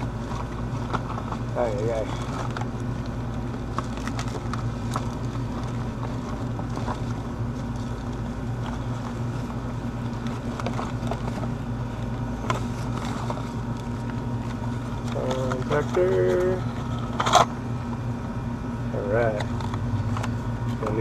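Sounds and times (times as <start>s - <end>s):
parts rattling in a bag: 0.0s - 3.0s, 3.6s - 17.5s
low mechanical hum: 0.0s - 21.0s.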